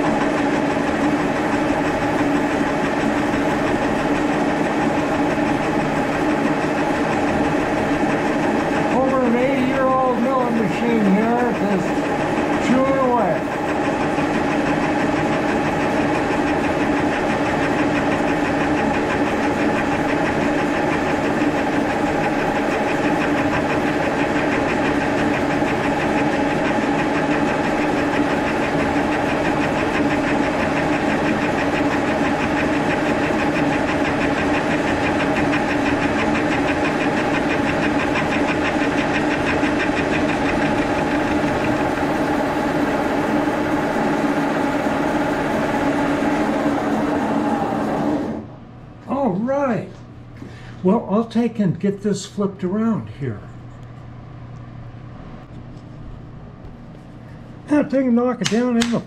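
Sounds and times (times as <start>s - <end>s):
milling machine cutting metal: 0.0s - 48.4s.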